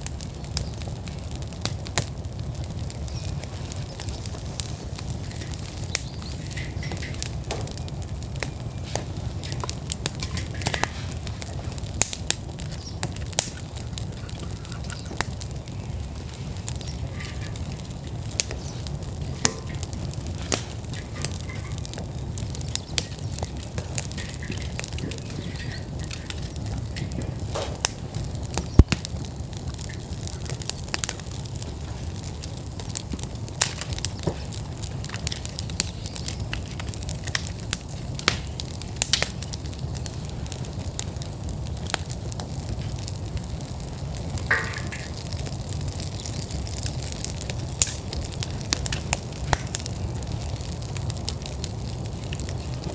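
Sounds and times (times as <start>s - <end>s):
fire flames rumbling and crackling: 0.0s - 52.9s.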